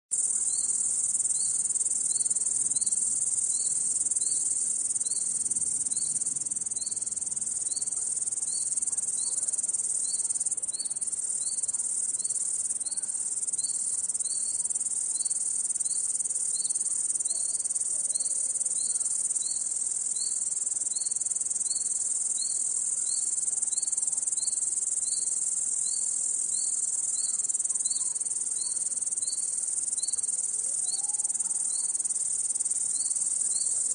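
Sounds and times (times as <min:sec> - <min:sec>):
crickets chirping chorus: 0:00.2 - 0:33.9.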